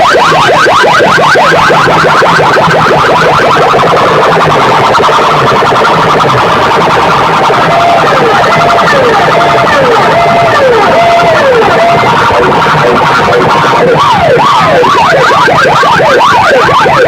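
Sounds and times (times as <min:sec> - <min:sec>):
falling siren tones: 0:00.0 - 0:17.0
warbling siren effects: 0:00.0 - 0:17.0
pulsing low beat: 0:01.1 - 0:17.0.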